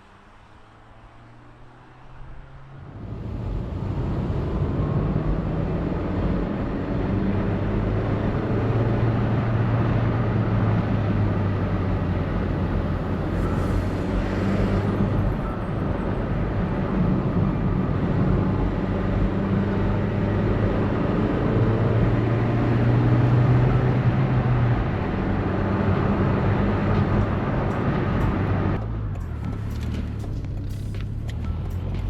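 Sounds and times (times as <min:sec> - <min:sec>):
car engine drone: 0:00.0 - 0:32.0
road noise: 0:00.0 - 0:32.0.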